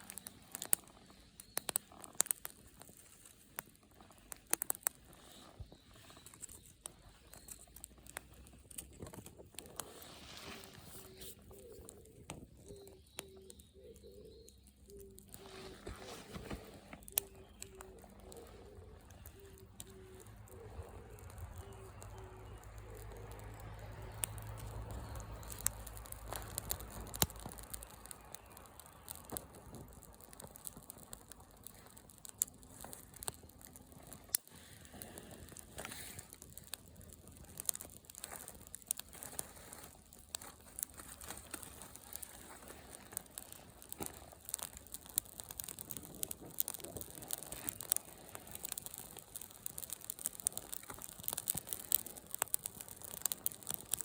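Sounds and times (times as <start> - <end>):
sharp snaps and pops: 0.0 - 54.0
wood bonfire crackling: 0.0 - 54.0.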